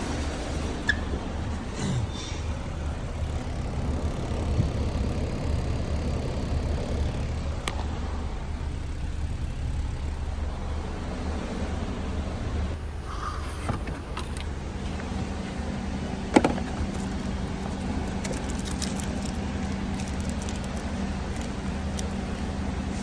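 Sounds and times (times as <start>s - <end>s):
blower fan humming: 0.0s - 23.0s.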